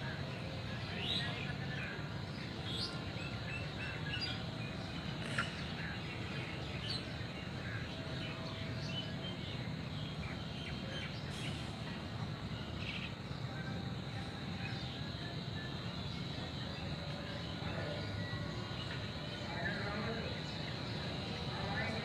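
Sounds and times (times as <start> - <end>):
birds chirping: 0.0 - 22.0
outdoor background noise: 0.0 - 22.0.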